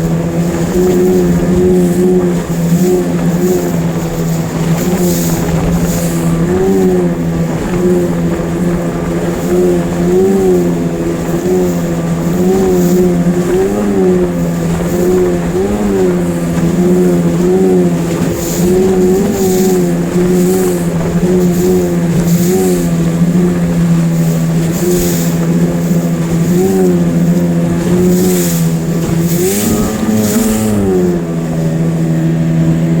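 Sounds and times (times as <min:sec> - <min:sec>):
outboard motor running: 0:00.0 - 0:33.0
water splashes: 0:00.0 - 0:33.0.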